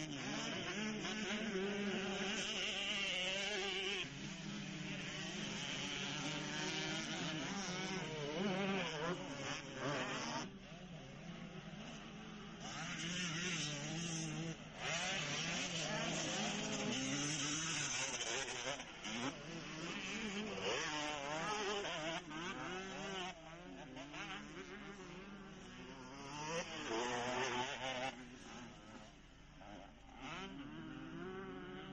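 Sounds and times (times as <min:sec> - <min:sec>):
motocross engines revving: 0:00.0 - 0:31.9.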